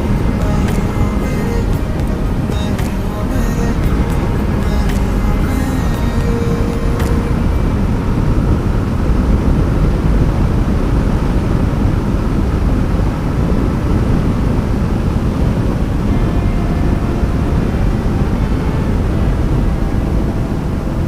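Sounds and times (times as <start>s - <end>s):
road noise: 0.0s - 21.0s
wind rumble: 0.0s - 21.0s.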